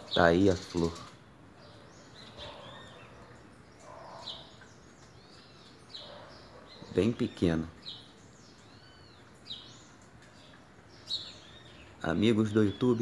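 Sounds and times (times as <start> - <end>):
low steady outdoor background noise: 0.0 - 13.0
small birds chirping: 0.0 - 13.0.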